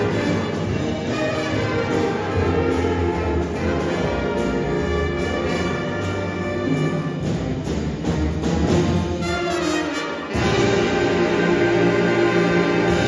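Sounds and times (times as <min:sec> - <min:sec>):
jazz band playing blues: 0:00.0 - 0:13.0.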